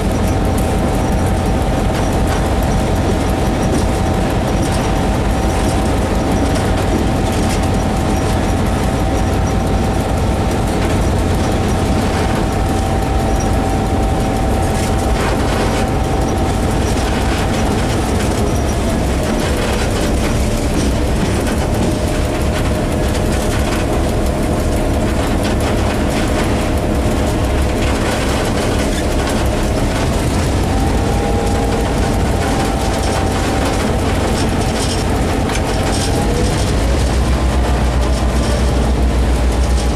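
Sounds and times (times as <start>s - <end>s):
locomotive engine drone: 0.0s - 39.9s
steady whine: 0.0s - 39.9s
wheels rumbling on rails: 0.0s - 39.9s.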